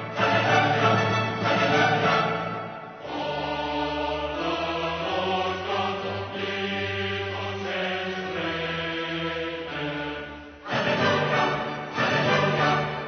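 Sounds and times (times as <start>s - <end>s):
choral chant with held notes: 0.0s - 13.0s.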